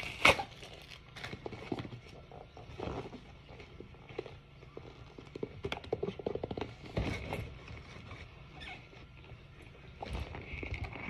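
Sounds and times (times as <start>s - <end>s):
candy box rustling and scraping: 0.0s - 11.0s.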